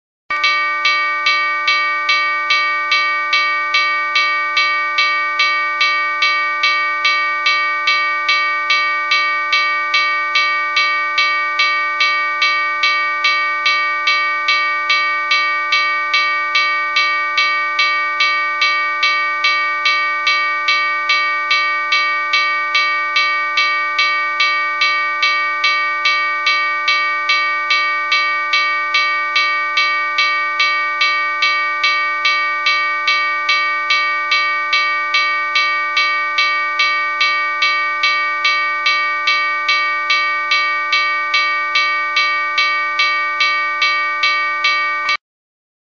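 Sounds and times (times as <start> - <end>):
level crossing warning bell: 0.3 - 45.2.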